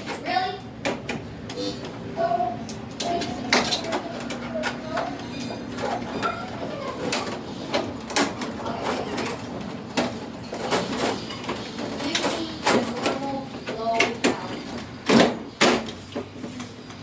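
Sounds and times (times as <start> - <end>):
plastic parts clicking and knocking: 2.7 - 16.7.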